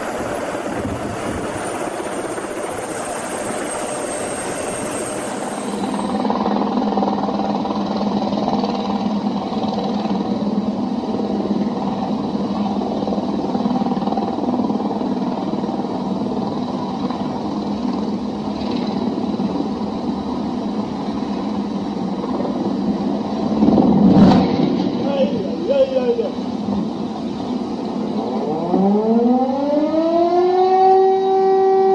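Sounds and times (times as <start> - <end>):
aircraft engines droning: 0.0 - 31.9.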